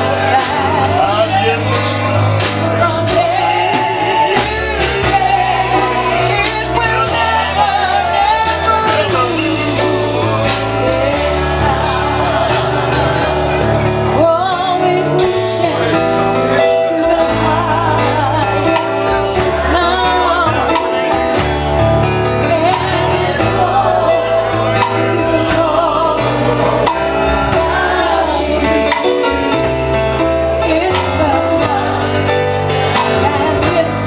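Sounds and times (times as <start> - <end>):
gospel duet singing: 0.0 - 34.0
instrumental accompaniment: 0.0 - 34.0
steady bass line: 0.0 - 34.0.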